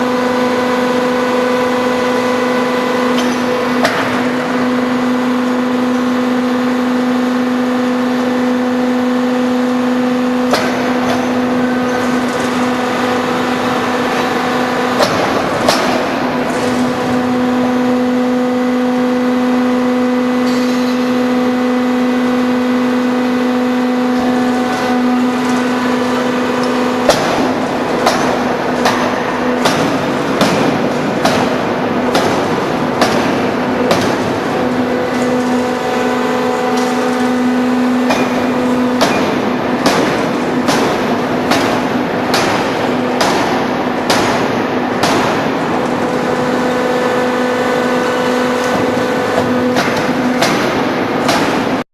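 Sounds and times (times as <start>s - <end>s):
hydraulic power unit humming: 0.0s - 51.9s
forging hammer blows: 7.2s - 51.8s.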